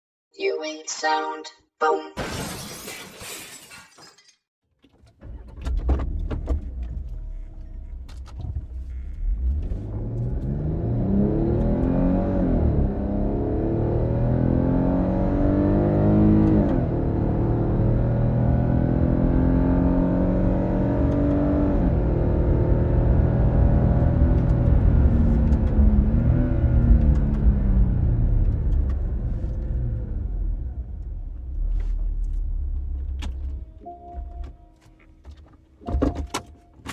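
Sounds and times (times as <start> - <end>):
low road rumble: 4.9 - 36.9
car engine accelerating: 5.1 - 35.5.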